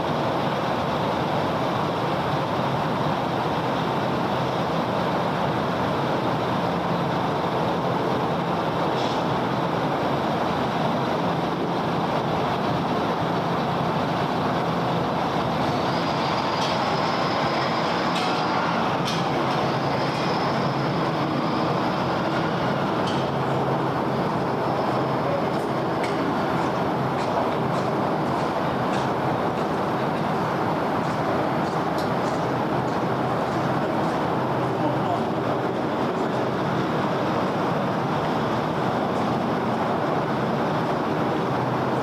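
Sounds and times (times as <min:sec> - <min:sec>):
city road traffic: 0:00.0 - 0:42.0.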